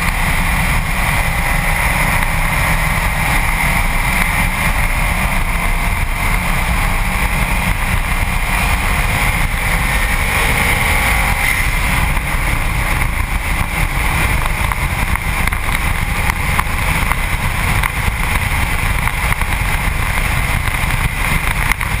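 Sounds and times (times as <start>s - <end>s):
faint car engine: 0.0s - 22.0s
tyre and road noise: 0.0s - 22.0s
wind buffeting: 0.0s - 22.0s.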